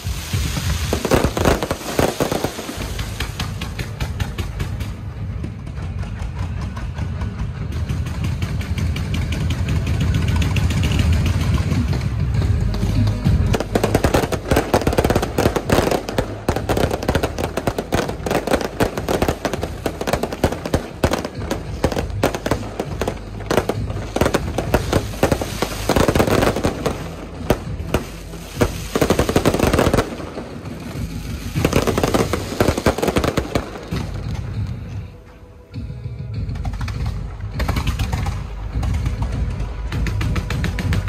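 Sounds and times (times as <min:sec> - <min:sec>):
firecrackers crackling: 0:00.0 - 0:35.2, 0:36.5 - 0:41.0
low steady drone: 0:00.0 - 0:41.0.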